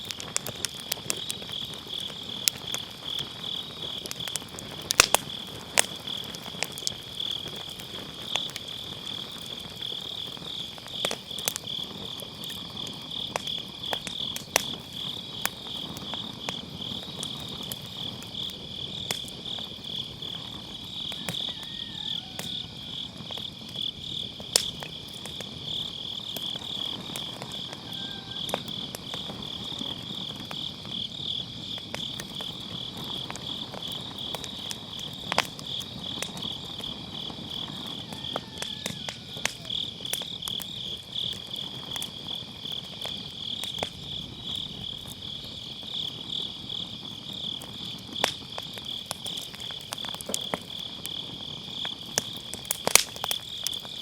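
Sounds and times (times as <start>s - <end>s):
insects chirping trill: 0.0s - 54.0s
wood fire crackling: 0.0s - 54.0s.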